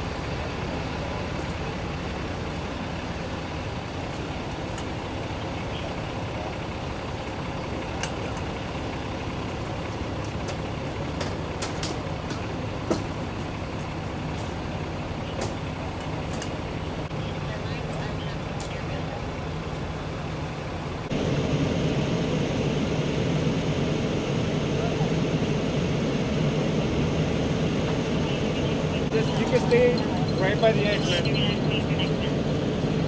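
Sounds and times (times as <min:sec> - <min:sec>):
diesel engines idling: 0:00.0 - 0:33.0.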